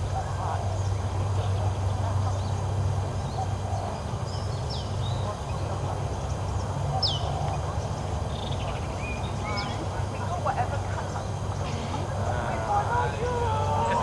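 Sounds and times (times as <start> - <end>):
bird calls: 0.0 - 14.0.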